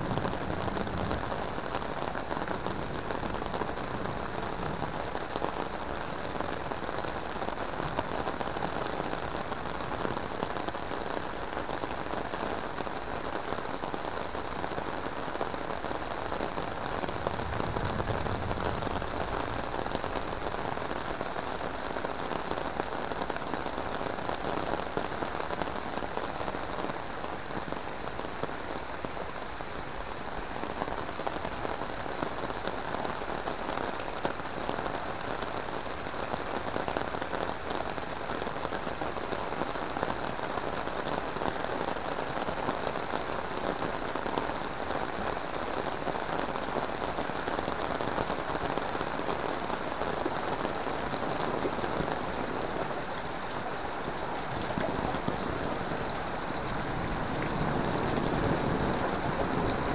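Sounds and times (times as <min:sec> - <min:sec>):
heavy rain on paving: 0:00.0 - 0:59.9.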